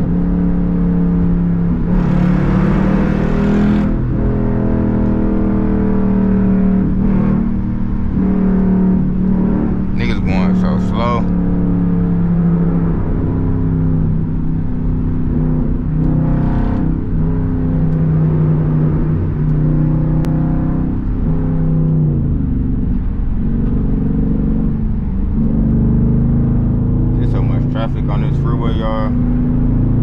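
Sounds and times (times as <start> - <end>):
car engine droning from inside cabin: 0.0 - 30.0.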